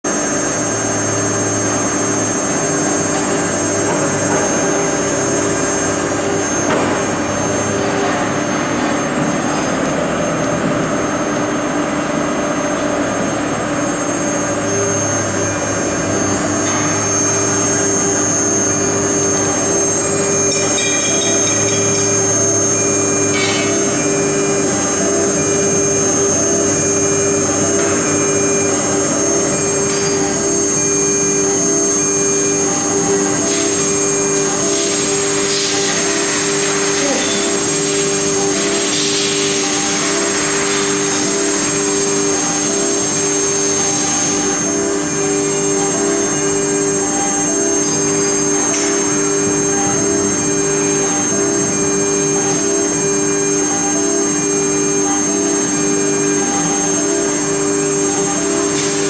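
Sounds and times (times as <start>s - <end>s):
router spindle motor whining: 0.1s - 59.0s.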